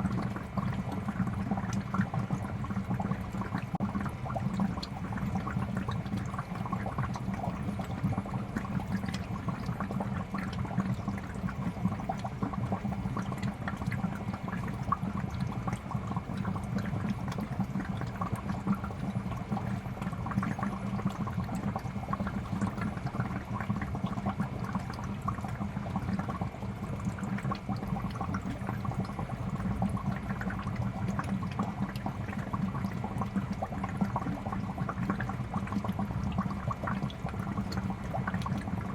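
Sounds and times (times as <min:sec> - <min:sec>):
aquarium air bubbles gurgling: 0:00.0 - 0:38.9.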